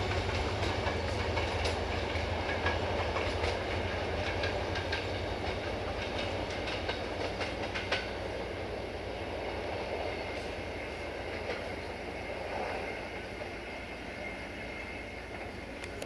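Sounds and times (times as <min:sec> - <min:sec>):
train wheel clicks: 0:00.0 - 0:08.6, 0:09.2 - 0:12.8, 0:14.2 - 0:16.0
train coaches rumbling on rails: 0:00.0 - 0:16.0.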